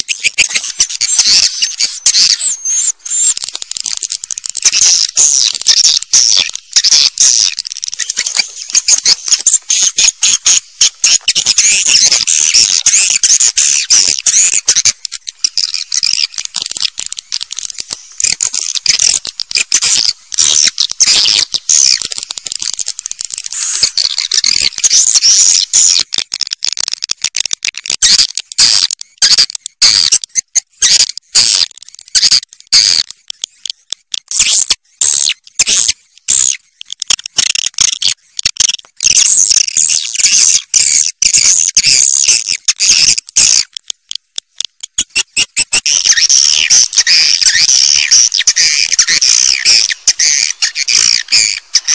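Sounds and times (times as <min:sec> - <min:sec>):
swiftlets twittering: 0:00.0 - 0:26.4, 0:28.0 - 0:51.9.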